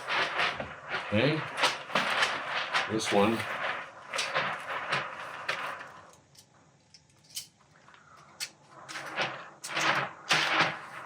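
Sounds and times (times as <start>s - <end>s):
plastic sheet rustling and crinkling: 0.0s - 6.3s, 7.8s - 11.0s.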